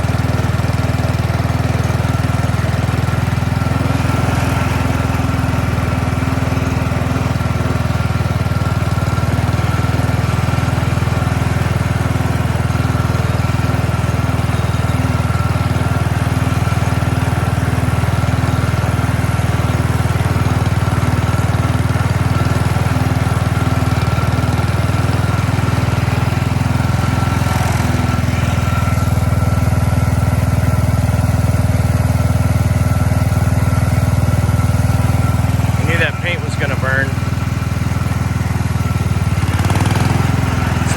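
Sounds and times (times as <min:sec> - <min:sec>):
tractor engine fast idle: 0:00.0 - 0:40.9.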